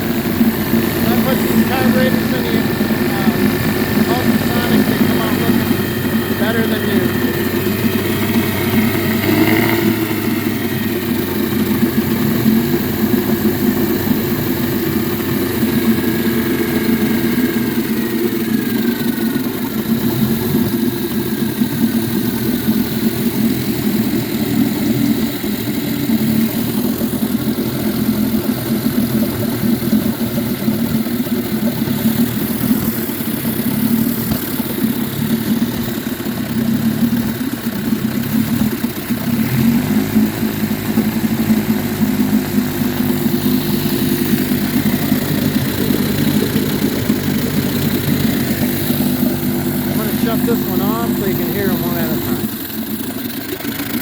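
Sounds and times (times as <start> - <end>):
outboard motors idling: 0.0 - 54.0.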